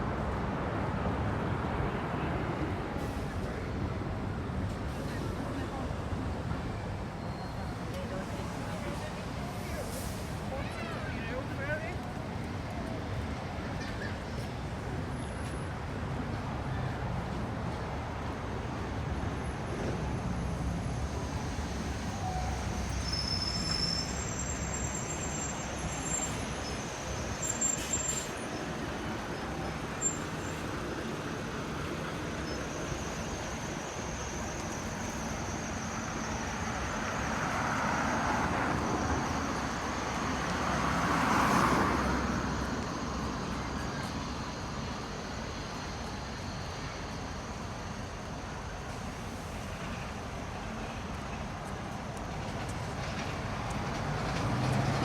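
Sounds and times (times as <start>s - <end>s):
hum of road traffic: 0.0s - 55.0s.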